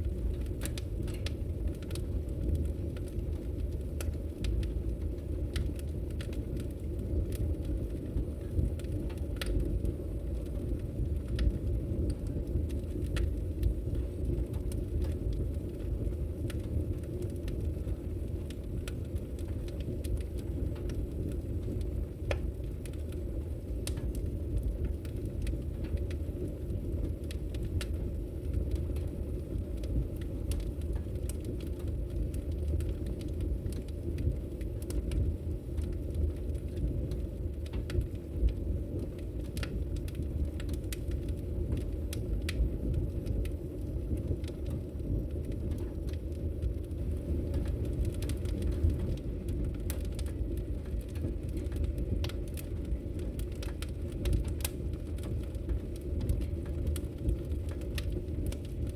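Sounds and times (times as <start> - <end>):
logs crackling and popping: 0.0 - 58.9
low fire rumble: 0.0 - 58.9.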